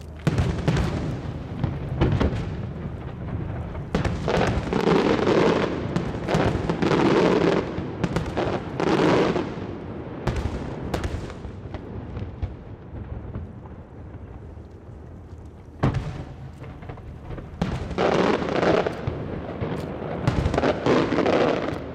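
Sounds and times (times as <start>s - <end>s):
fireworks bursting: 0.0s - 14.9s, 15.7s - 21.9s.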